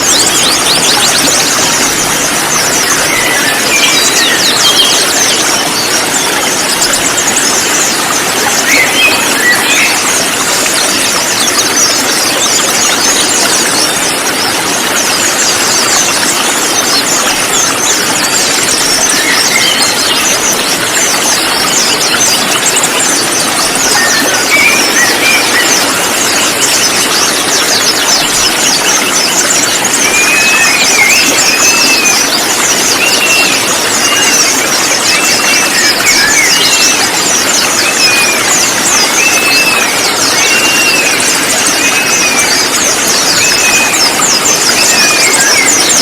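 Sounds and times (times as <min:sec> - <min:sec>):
birds chirping and twittering: 0:00.0 - 0:46.0.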